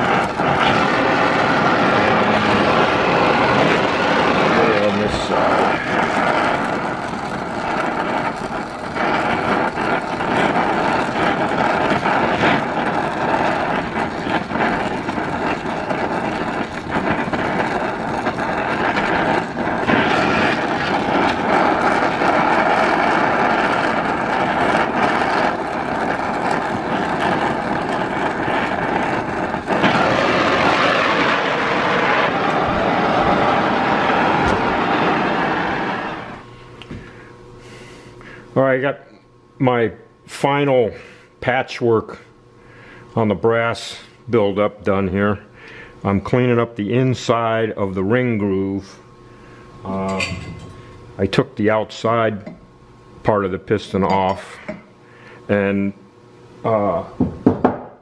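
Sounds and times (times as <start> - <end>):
torch flame hissing: 0.0 - 58.0.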